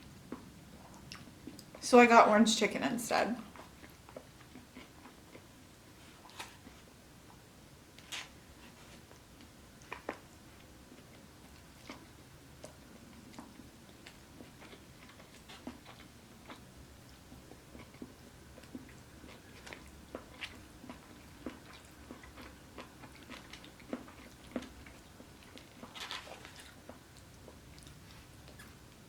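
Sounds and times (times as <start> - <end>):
person chewing food: 0.2 - 1.8, 3.5 - 29.0.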